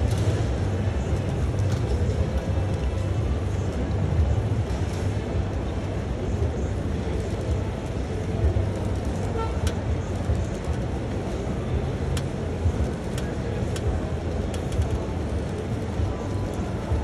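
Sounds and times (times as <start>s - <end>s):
crowd and venue rumble: 0.0s - 17.0s.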